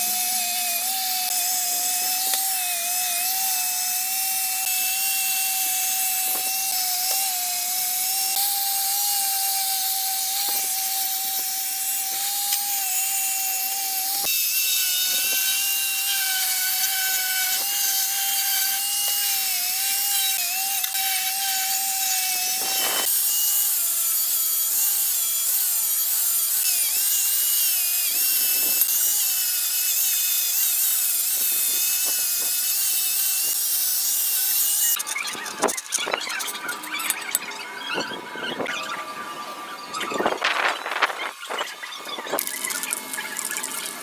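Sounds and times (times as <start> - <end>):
power tool whining on metal: 0.0 - 44.0.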